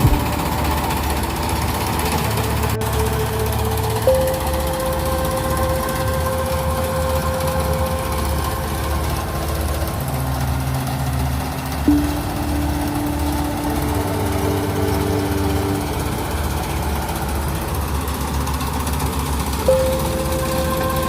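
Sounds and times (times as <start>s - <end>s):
harvester engine drone: 0.0s - 21.0s
machine whining tone: 0.0s - 21.0s.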